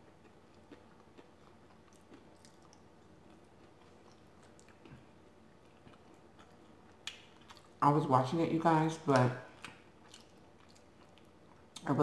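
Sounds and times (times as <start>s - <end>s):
person chewing: 0.0s - 7.8s, 9.5s - 11.9s.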